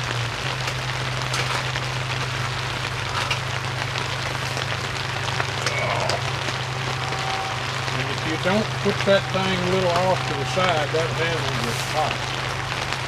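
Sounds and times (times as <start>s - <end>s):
dripping water ticks: 0.0s - 13.0s
low hum: 0.0s - 13.0s
rain falling on a tent: 0.0s - 13.0s.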